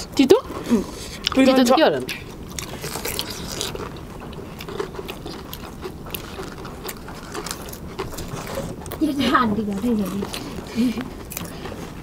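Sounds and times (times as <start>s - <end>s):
crisp shells crunching: 2.1s - 12.0s.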